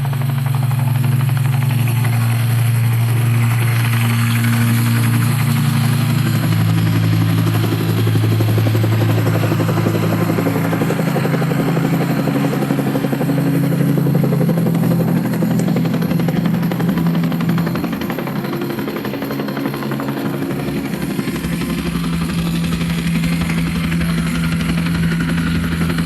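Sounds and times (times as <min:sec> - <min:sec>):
helicopter rotor blades chopping: 0:00.0 - 0:26.0
low engine drone: 0:00.0 - 0:26.0.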